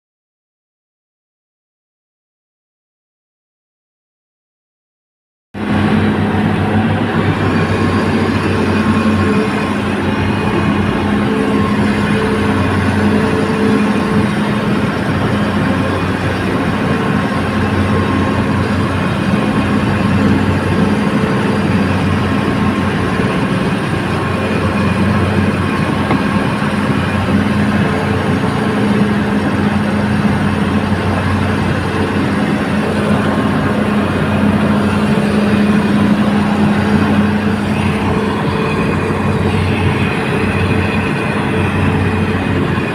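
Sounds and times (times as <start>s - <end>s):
heavy diesel machinery droning: 5.6s - 42.9s.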